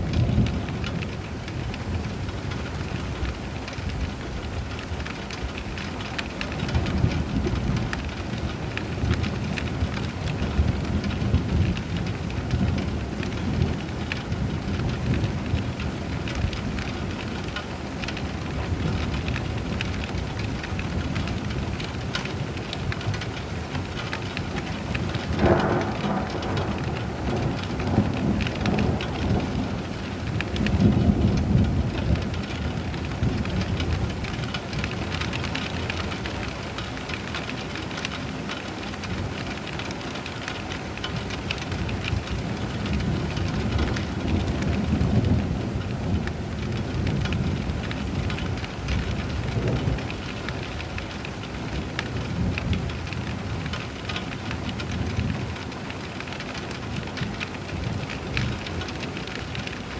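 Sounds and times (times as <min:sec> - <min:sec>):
heavy rain: 0:00.0 - 0:59.9
thunder crack and rumble: 0:00.0 - 0:59.9.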